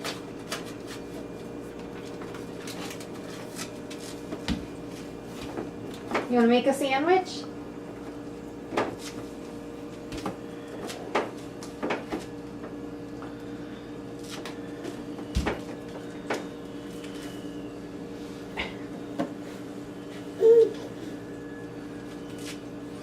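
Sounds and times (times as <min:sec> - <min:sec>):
steady fridge hum: 0:00.0 - 0:23.0.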